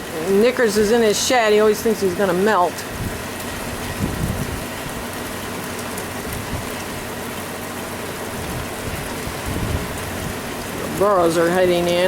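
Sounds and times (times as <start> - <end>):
low rumbling: 0.0 - 12.0
steady rain hiss: 0.0 - 12.0.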